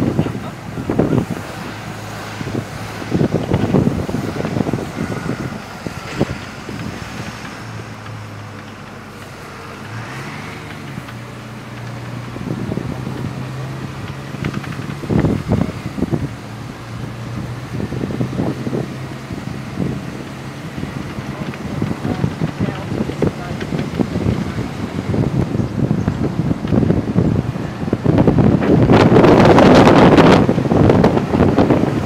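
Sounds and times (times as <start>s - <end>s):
bus engine running: 0.0s - 32.0s
wind buffeting microphone: 0.0s - 32.0s.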